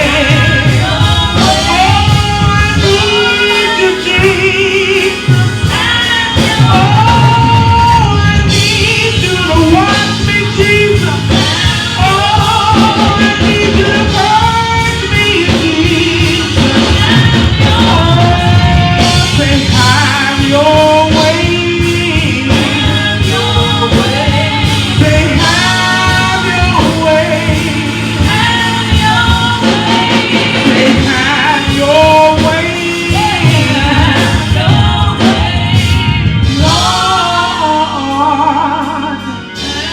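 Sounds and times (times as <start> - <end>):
gospel singing with band: 0.0 - 39.9.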